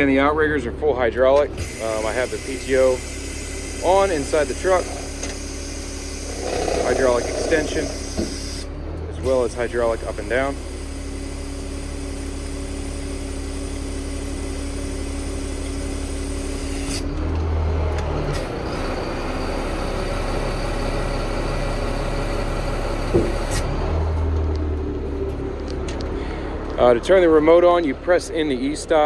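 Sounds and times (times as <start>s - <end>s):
diesel engine and hydraulic pump: 0.0s - 29.0s.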